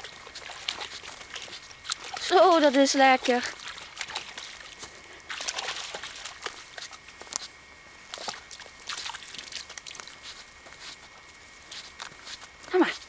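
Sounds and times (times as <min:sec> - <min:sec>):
dog splashing through puddle: 0:00.0 - 0:13.0.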